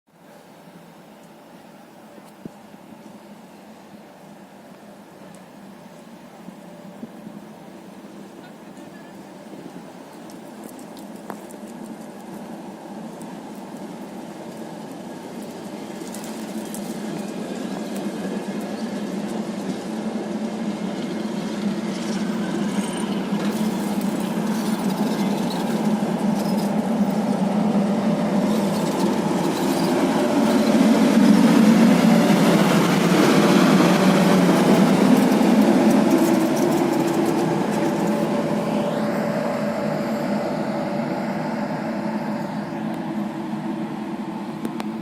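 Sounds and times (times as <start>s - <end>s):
train wheels rumbling on rails: 1.3s - 45.0s.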